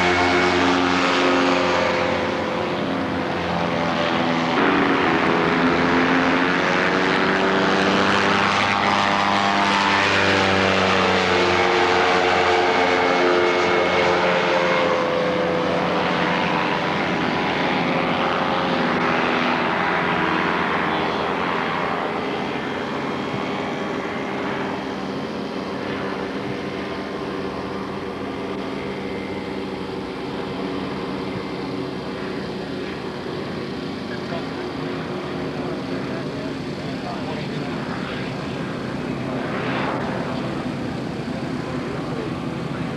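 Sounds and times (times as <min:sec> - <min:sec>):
propeller aircraft engine running: 0:00.0 - 0:42.9.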